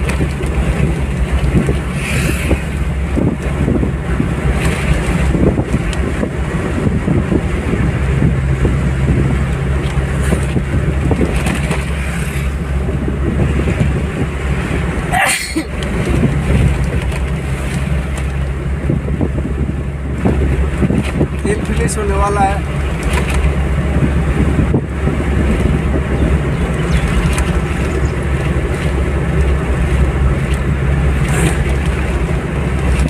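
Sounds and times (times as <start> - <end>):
car driving on highway: 0.0 - 33.0
wind: 0.0 - 33.0.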